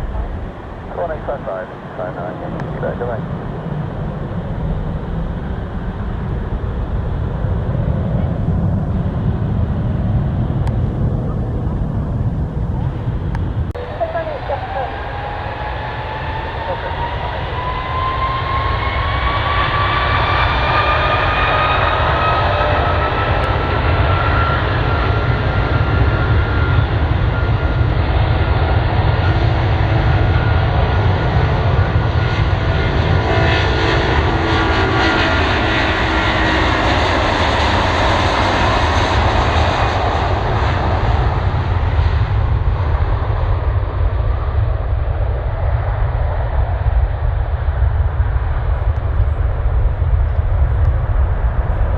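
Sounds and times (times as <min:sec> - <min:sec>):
deep engine rumble: 0:00.0 - 0:51.9
jet engines rising whine: 0:00.0 - 0:51.9.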